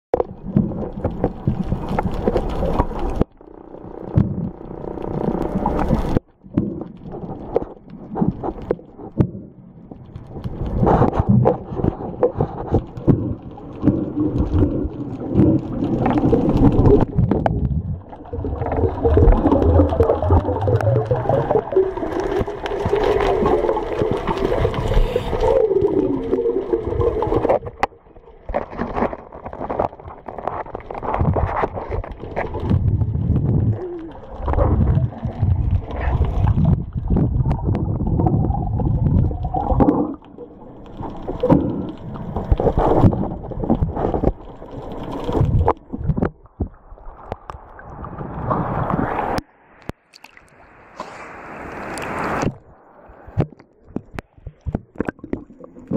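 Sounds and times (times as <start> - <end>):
underwater bubbling and gurgling: 0.1 - 55.9.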